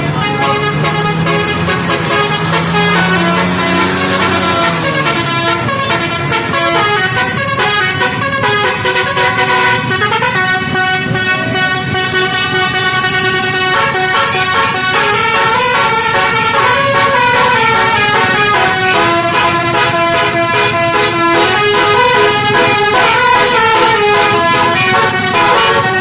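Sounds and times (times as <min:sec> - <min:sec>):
engine rumble: 0:00.0 - 0:26.0
multi-tone vehicle horn tune: 0:00.0 - 0:26.0.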